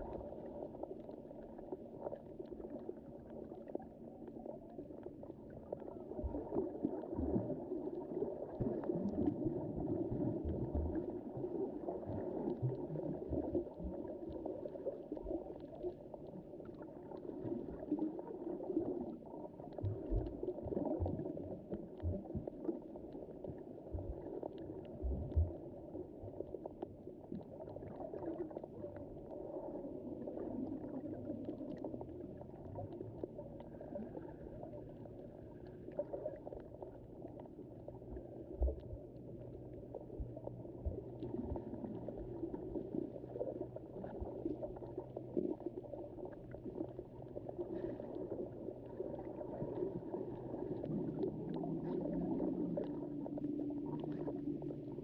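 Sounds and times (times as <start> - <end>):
muffled underwater sloshing: 0.0 - 55.0.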